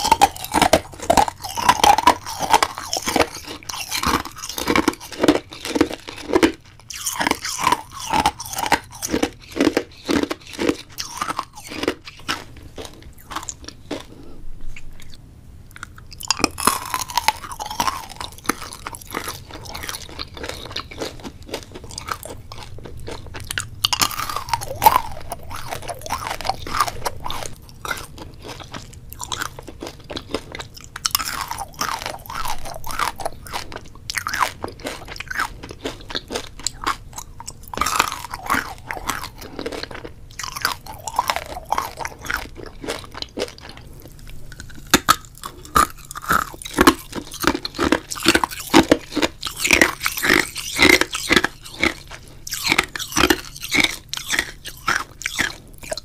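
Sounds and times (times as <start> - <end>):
crisp crunching clicks and crackles: 0.0 - 56.0.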